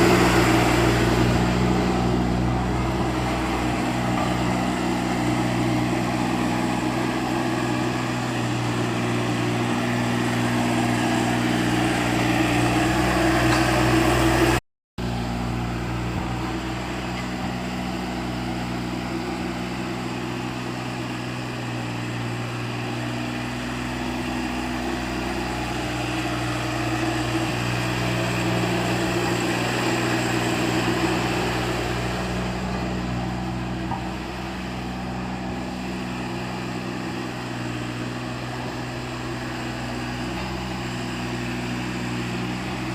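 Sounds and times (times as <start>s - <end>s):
small engine running: 0.0s - 42.9s.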